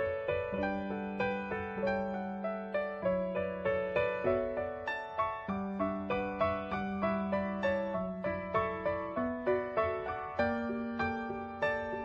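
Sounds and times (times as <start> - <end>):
gentle keyboard melody: 0.0 - 12.0.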